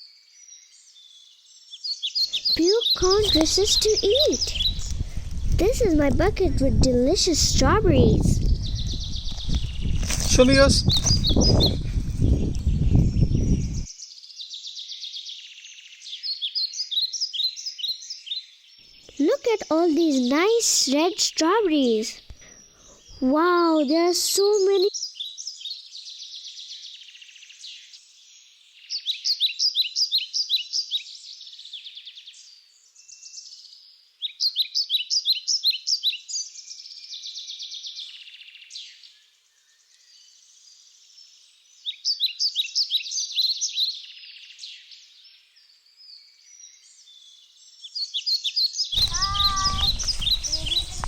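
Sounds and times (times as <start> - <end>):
songbird chirping: 0.0 - 51.0.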